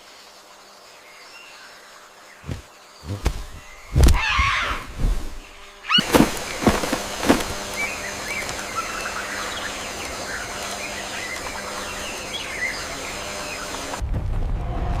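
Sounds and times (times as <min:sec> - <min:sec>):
outdoor hiss: 0:00.0 - 0:14.0
small birds chirping: 0:00.0 - 0:14.0.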